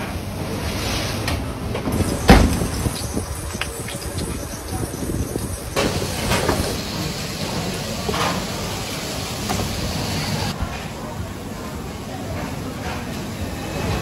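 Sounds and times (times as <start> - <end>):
kitchen hiss and rumble: 0.0 - 14.0.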